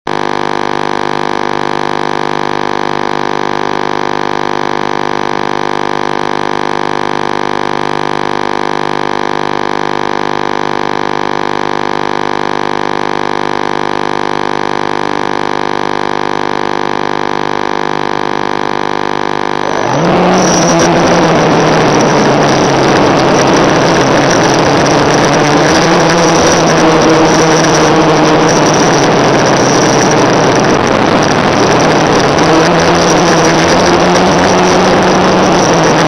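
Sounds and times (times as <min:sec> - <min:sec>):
steady electronic hum: 0:00.1 - 0:36.0.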